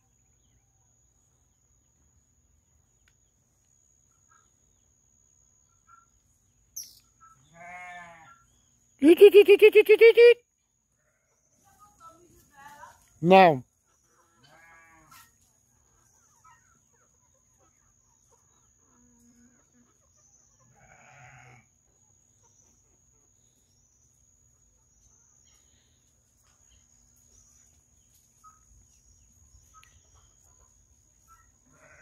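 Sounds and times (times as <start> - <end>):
faint farm animal calls: 0.0 - 9.0, 10.2 - 32.0.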